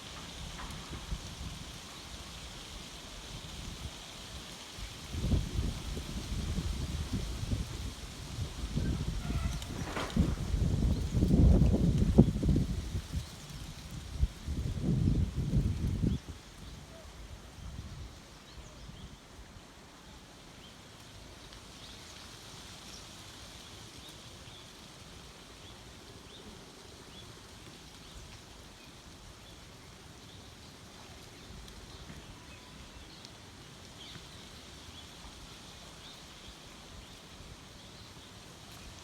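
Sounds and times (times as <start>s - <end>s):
steady outdoor hiss: 0.0s - 39.0s.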